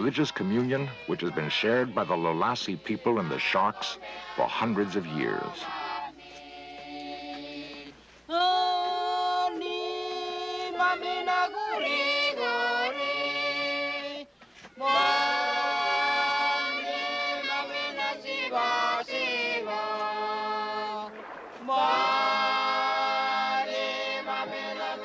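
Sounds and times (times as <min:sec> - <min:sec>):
group singing unaccompanied: 0:00.0 - 0:25.0.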